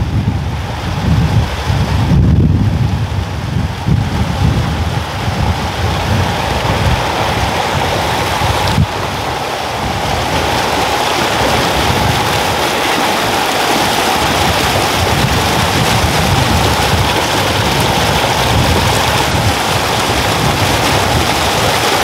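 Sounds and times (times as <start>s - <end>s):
mountain river rushing: 0.0s - 22.0s.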